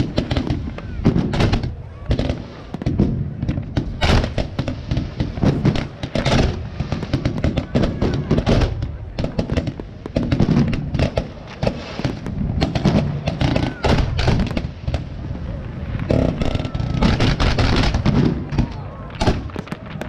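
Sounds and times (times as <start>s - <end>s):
fireworks bangs and pops: 0.0s - 20.0s
fireworks crackling: 0.0s - 20.0s.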